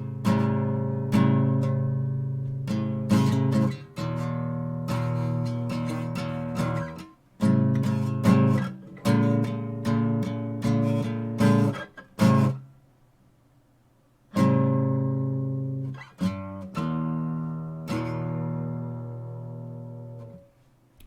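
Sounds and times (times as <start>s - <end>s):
acoustic guitar strumming chords: 0.0s - 12.7s, 14.3s - 20.5s.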